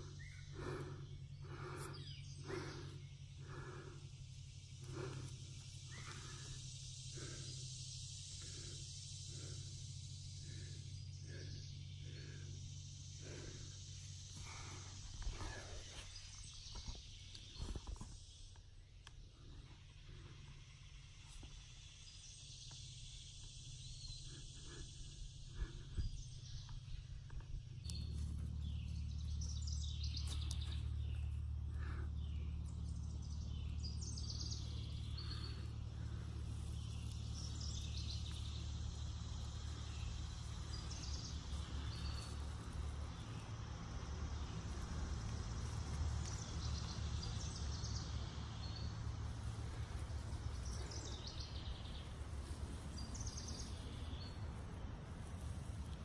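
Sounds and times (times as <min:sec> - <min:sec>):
birds chirping: 0:00.0 - 0:56.0
insects: 0:00.0 - 0:56.0
steady low rumble: 0:00.0 - 0:56.0.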